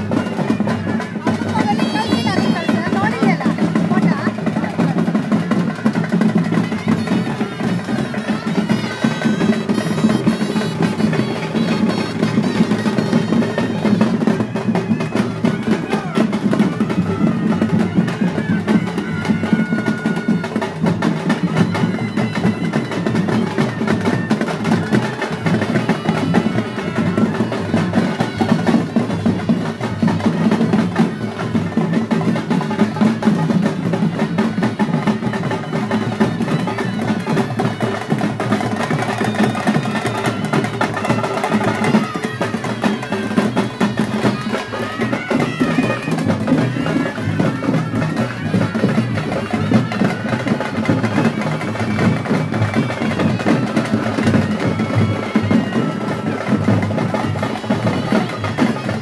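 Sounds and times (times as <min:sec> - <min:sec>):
procession drums playing fast: 0:00.0 - 0:59.0.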